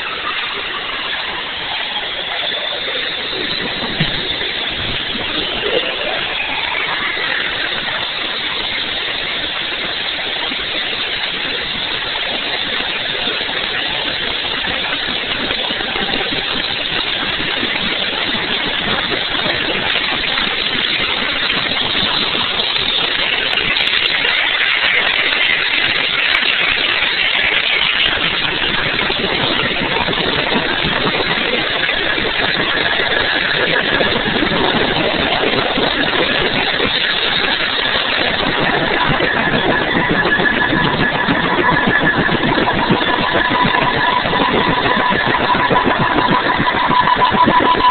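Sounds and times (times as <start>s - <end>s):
helicopter turbine engine: 0.0s - 47.9s
high turbine whine: 0.0s - 47.9s.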